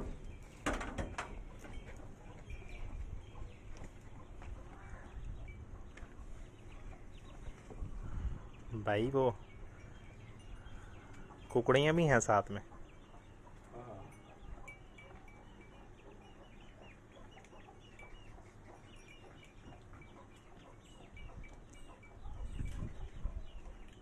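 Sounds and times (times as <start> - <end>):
hens clucking: 1.2 - 8.7, 9.9 - 24.0.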